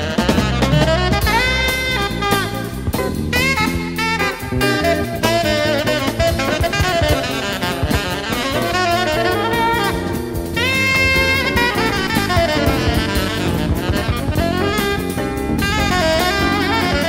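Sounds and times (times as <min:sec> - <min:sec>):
drum kit: 0:00.0 - 0:17.0
jazz group playing: 0:00.0 - 0:17.0.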